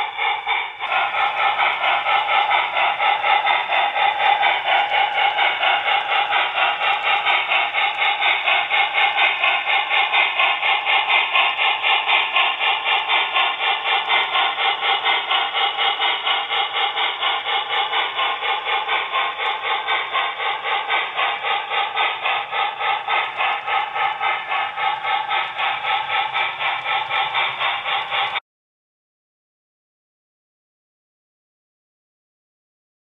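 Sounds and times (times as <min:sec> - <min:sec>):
steam locomotive chuffing: 0:00.0 - 0:28.4.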